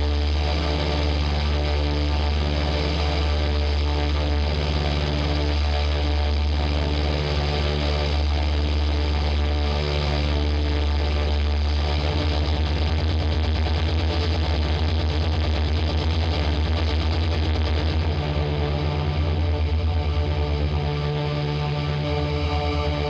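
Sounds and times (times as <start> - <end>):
deep drone: 0.0 - 23.0
distorted electric guitar: 0.0 - 23.0.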